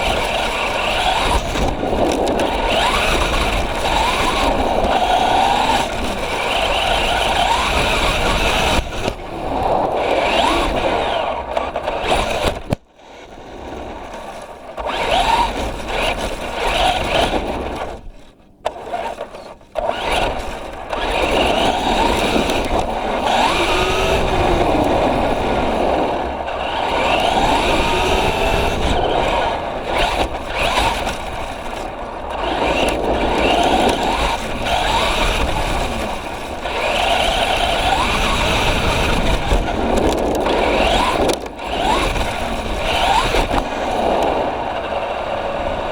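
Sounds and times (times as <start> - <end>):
electric motor whining: 0.0 - 45.9
rough tyre and drivetrain noise: 0.0 - 45.9.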